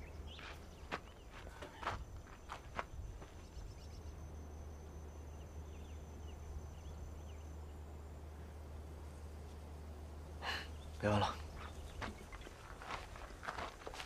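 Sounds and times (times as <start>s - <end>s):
high insect drone: 0.0s - 14.0s
low steady hum: 0.0s - 14.0s.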